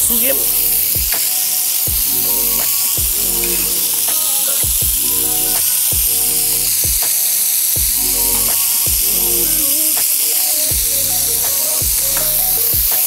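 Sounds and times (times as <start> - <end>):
low drum beat: 0.0 - 1.2, 1.9 - 7.1, 7.8 - 9.7, 10.7 - 13.0
background music: 0.0 - 13.0.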